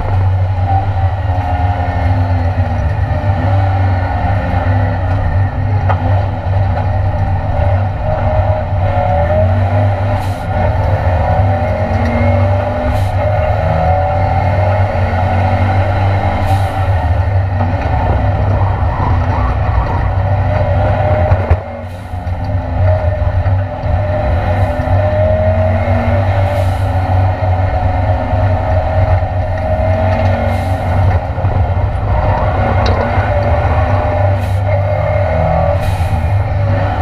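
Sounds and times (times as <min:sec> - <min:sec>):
race car engine running hard: 0:00.0 - 0:37.0.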